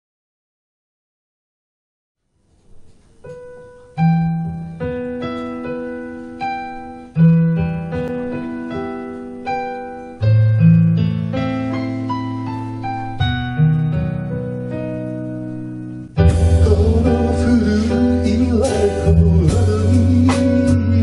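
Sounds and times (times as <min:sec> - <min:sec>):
solo piano playing: 0:02.7 - 0:21.0.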